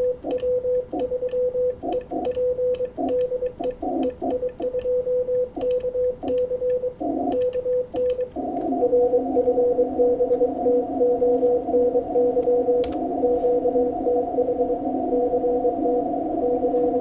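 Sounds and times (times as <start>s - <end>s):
morse code tone: 0.0s - 17.0s.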